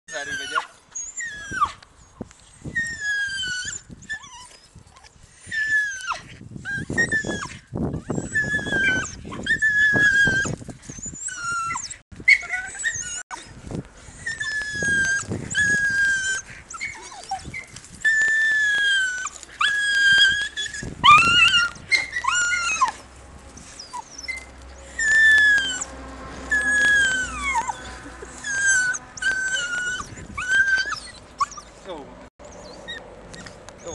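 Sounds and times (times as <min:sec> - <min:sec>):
puppy whining and yelping: 0:00.1 - 0:25.9, 0:26.5 - 0:31.8, 0:32.4 - 0:33.9.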